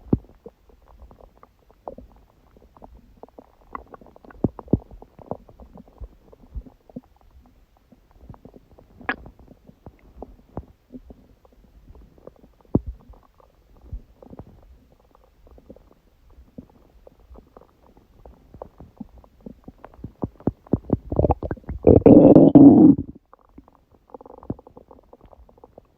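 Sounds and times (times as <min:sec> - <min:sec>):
stomach growling: 0:00.1 - 0:25.9.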